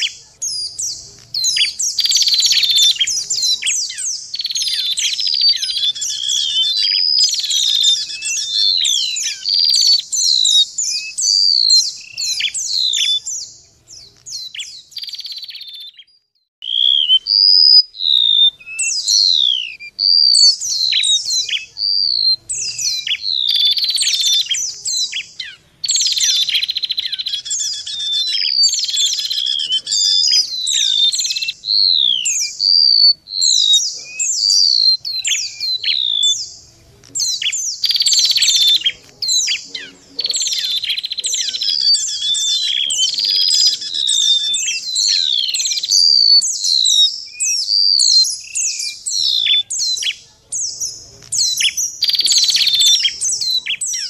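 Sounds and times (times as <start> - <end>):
rapid chattering trills: 0.0 - 15.8, 18.0 - 46.8
songbirds calling: 0.0 - 54.0.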